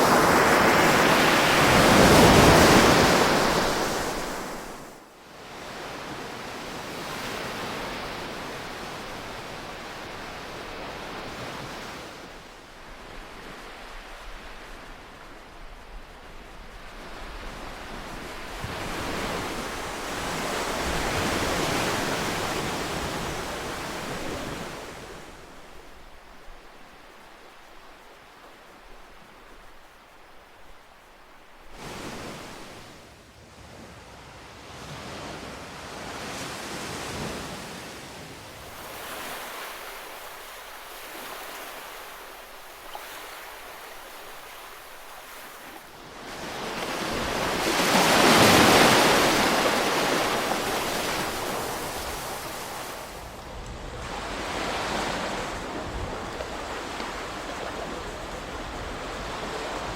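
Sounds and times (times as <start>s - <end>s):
ocean waves breaking: 0.0s - 5.1s, 5.7s - 30.2s, 31.5s - 33.0s, 38.5s - 59.9s
wind: 0.0s - 59.9s.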